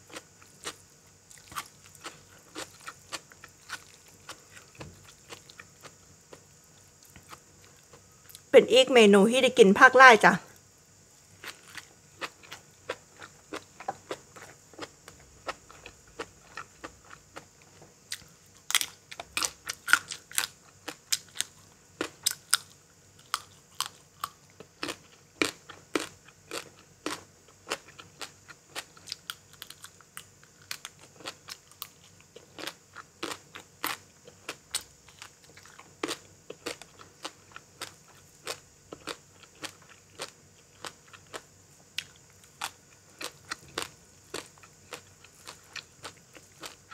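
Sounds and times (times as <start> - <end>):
person chewing crunchy food: 0.0 - 8.5, 11.2 - 46.9.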